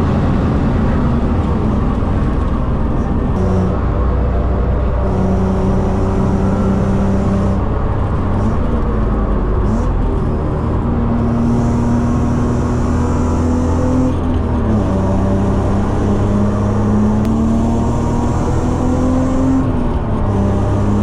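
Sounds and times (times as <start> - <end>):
car engine running under load: 0.0 - 21.0
road and wind noise: 0.0 - 21.0.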